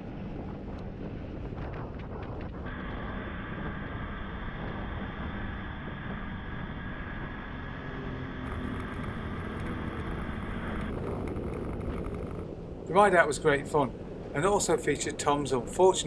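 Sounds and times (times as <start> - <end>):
motorcycle running: 0.0 - 12.9
wind rushing over microphone: 0.0 - 16.0.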